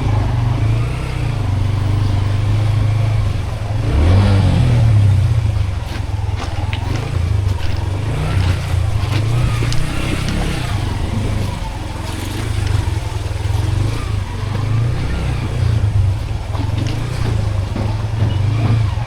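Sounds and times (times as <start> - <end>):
motor vehicle rumbling: 0.0 - 19.0
street traffic: 0.0 - 19.0.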